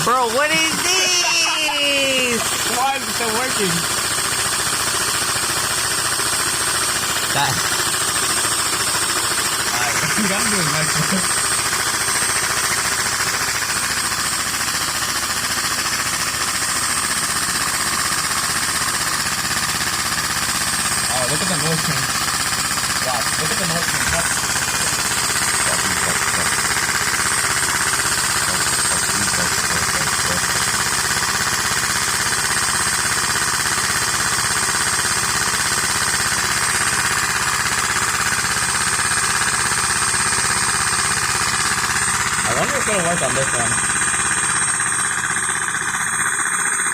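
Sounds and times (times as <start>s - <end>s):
model engine clattering: 0.0s - 46.9s
vacuum cleaner whine: 0.0s - 46.9s.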